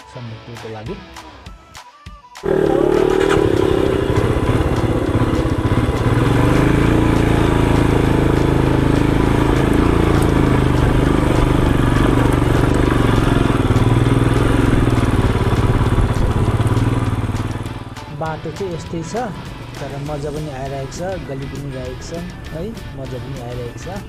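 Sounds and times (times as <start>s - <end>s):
motorcycle engine running: 2.4s - 24.0s.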